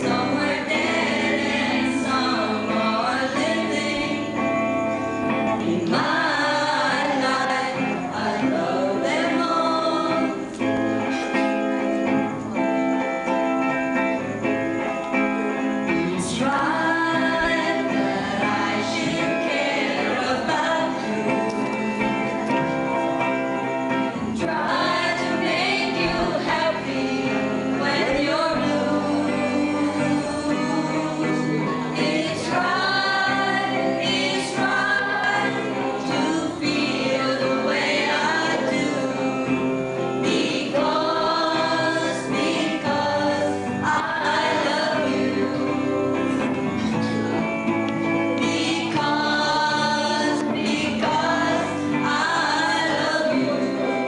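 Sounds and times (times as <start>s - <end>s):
group singing: 0.0s - 12.4s, 15.9s - 54.0s
guitar: 0.0s - 54.0s.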